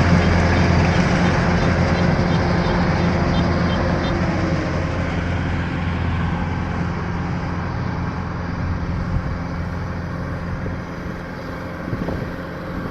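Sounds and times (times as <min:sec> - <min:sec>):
heavy machine engine humming: 0:00.0 - 0:12.9.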